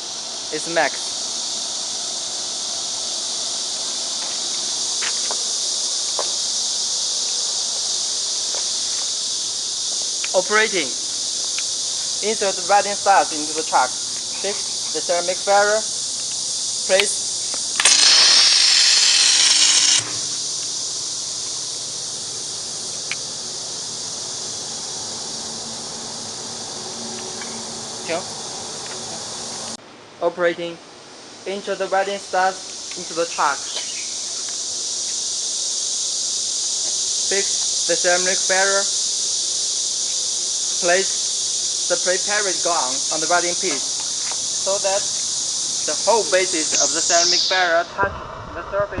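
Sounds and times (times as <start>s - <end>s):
welding arc hiss: 0.0s - 29.8s, 32.3s - 48.9s
steady high hiss: 0.0s - 49.0s.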